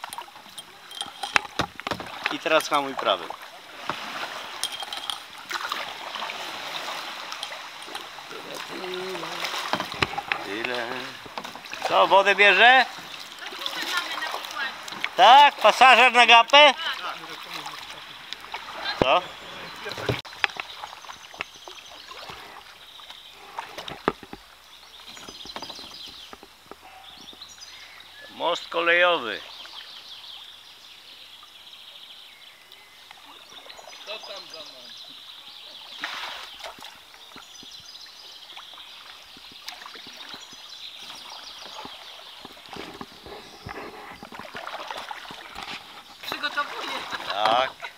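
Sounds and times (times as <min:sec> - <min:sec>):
water dripping off paddle: 0:00.0 - 0:27.7, 0:35.9 - 0:47.9
paddle splashing in water: 0:00.0 - 0:27.8, 0:33.1 - 0:47.9.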